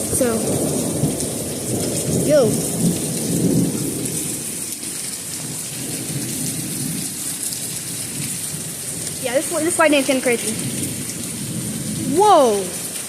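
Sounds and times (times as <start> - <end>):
low thunder rumble: 0.0 - 13.0
rain hissing: 0.0 - 13.0.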